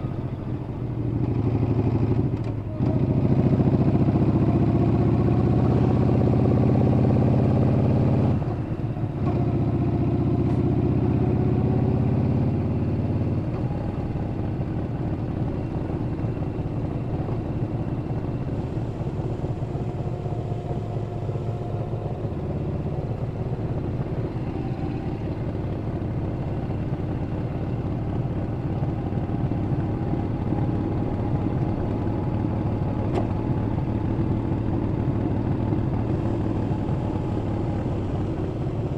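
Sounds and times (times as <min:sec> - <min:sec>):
motorcycle engine under throttle: 0:00.0 - 0:38.9.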